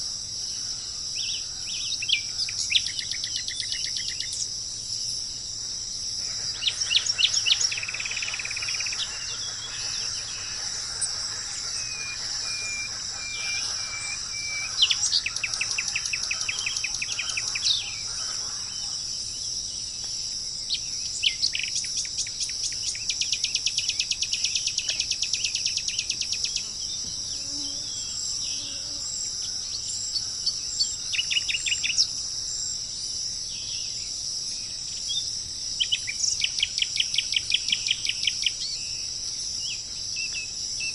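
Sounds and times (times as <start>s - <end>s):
birds singing trills: 0.0s - 32.8s, 33.4s - 40.9s
high insect chorus: 0.0s - 40.9s.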